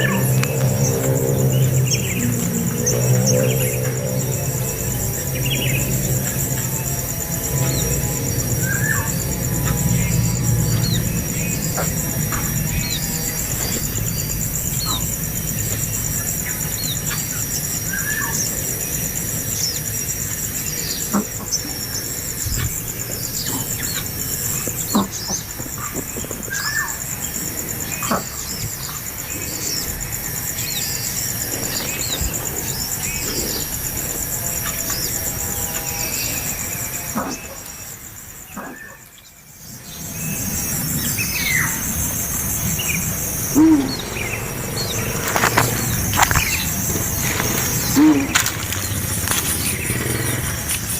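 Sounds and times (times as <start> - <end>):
birds chirping: 0.0 - 50.9
high pulsing buzz: 0.0 - 50.9.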